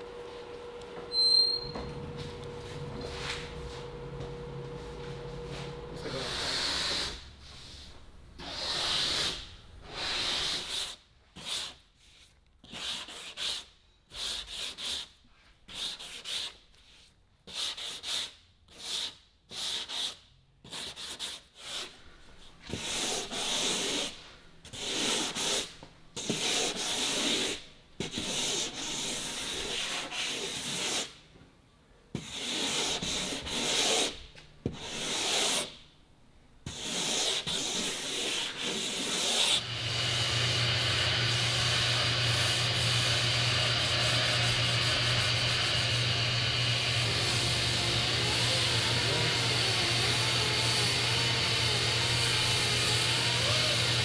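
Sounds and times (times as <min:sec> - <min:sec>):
sandpaper rasping: 0:06.0 - 0:07.2, 0:08.4 - 0:22.0, 0:22.7 - 0:31.2, 0:32.2 - 0:35.8, 0:36.7 - 0:54.0.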